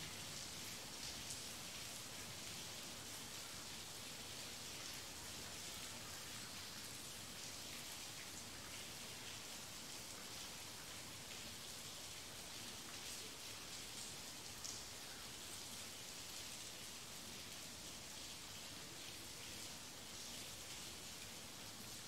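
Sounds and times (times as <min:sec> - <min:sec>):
light rain falling: 0:00.0 - 0:22.0.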